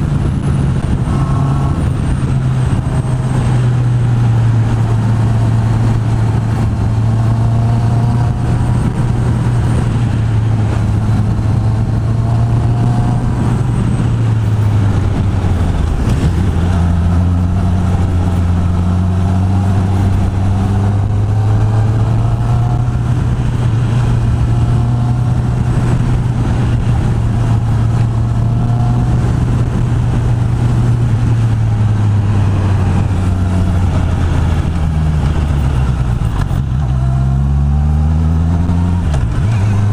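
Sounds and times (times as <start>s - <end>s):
constant rushing noise: 0.0s - 39.9s
motorcycle engine running: 0.0s - 39.9s.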